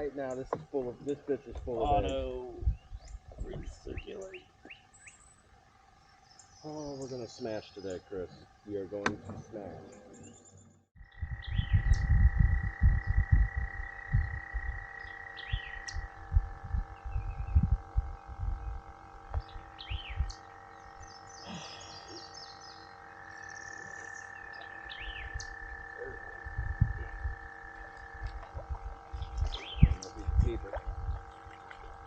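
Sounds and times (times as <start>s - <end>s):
birds chirping: 0.0s - 32.0s
small electric motor whine: 0.7s - 32.0s.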